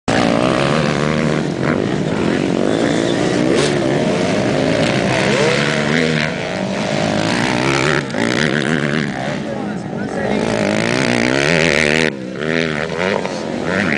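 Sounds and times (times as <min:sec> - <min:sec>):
motorcycle engines revving: 0:00.1 - 0:13.9.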